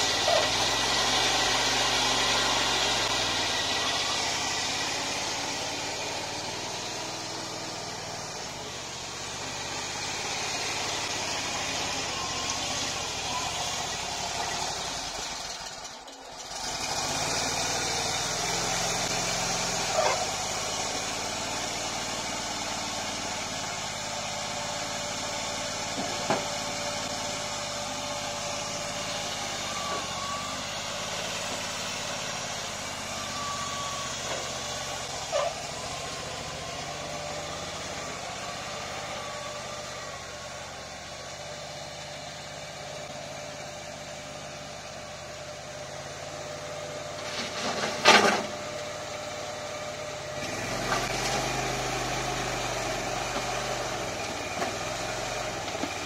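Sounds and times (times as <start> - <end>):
loader engine running: 0.0 - 56.0.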